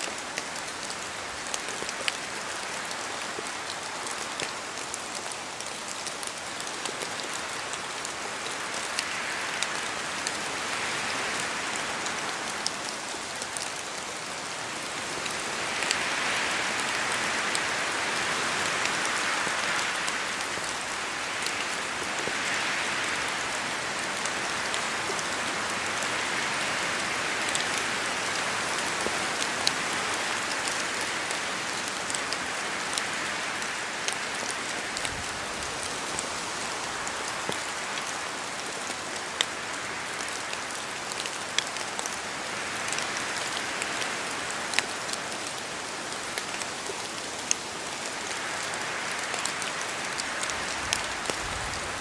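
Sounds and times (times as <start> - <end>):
steady rain in forest: 0.0 - 52.0.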